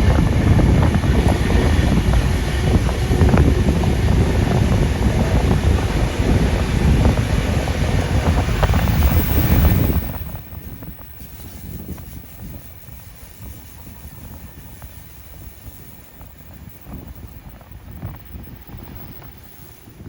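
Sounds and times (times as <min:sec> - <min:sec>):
train rumbling: 0:00.0 - 0:20.0
wind rushing over microphone: 0:00.0 - 0:20.0.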